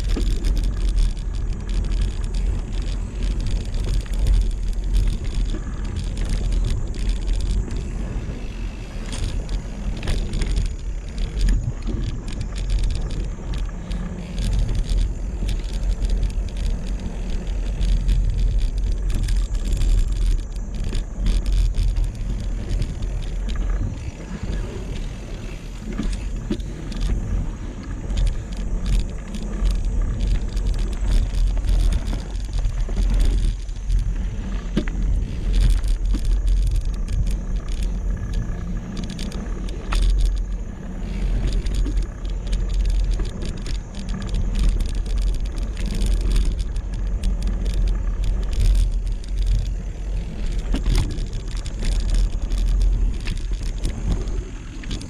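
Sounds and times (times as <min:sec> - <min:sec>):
bike clicking and rattling: 0:00.0 - 0:55.0
tyres rumbling on dirt: 0:00.0 - 0:55.0
wind on microphone: 0:00.0 - 0:55.0.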